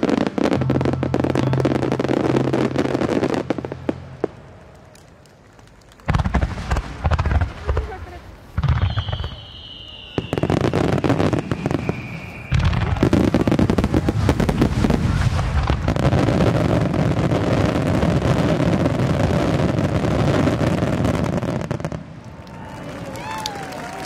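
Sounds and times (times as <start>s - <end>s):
fireworks bursting: 0.0s - 22.3s.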